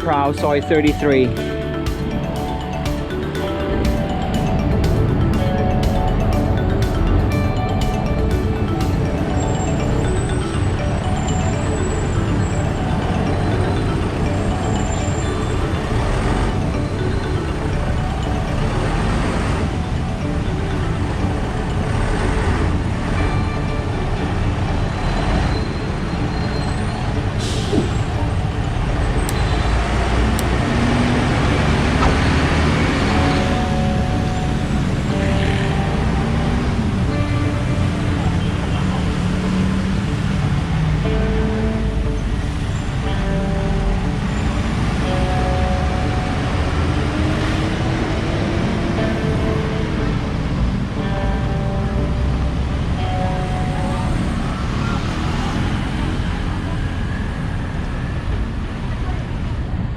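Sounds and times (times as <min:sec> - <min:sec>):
background music: 0:00.0 - 0:58.6
heavy road traffic rumble: 0:00.0 - 0:59.9.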